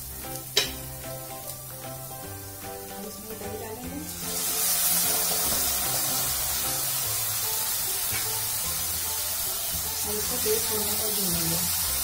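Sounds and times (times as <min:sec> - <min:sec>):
background music: 0:00.0 - 0:12.0
sizzling hiss in a pan: 0:00.0 - 0:12.0.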